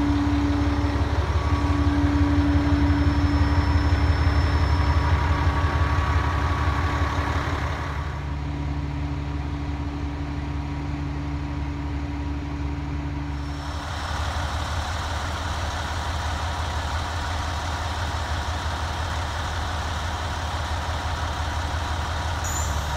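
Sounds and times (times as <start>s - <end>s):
diesel truck idling: 0.0s - 22.9s.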